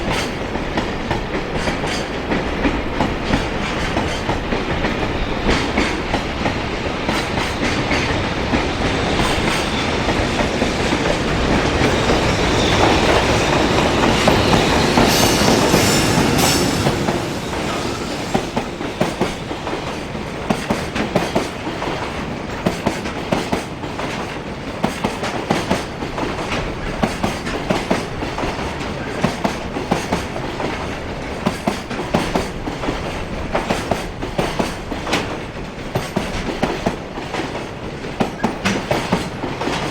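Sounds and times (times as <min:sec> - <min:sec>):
train wagons rumbling: 0:00.0 - 0:39.9
wheels clacking over rail joints: 0:00.0 - 0:39.9.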